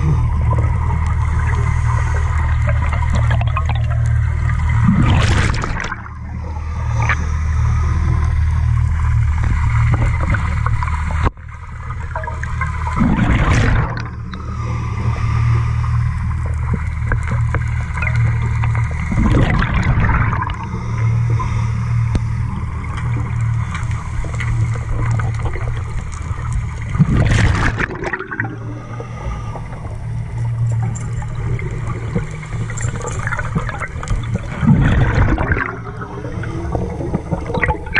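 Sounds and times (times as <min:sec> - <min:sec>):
exhaled bubbles gurgling underwater: 0:00.0 - 0:37.9
steady low hum: 0:00.0 - 0:37.9.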